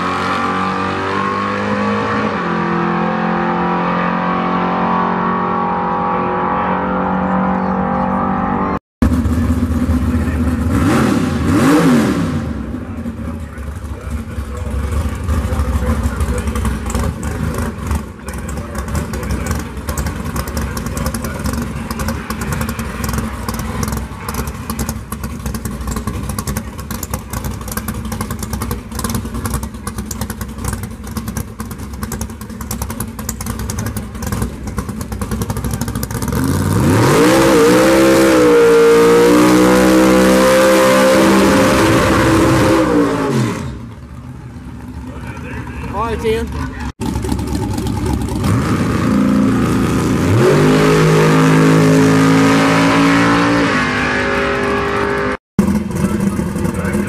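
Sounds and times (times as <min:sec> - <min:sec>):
pickup engine revving and idling: 0:00.0 - 0:57.0.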